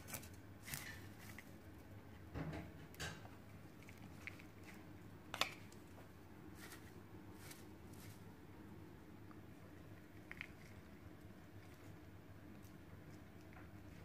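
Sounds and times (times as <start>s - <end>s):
quiet room hum: 0.0s - 14.0s.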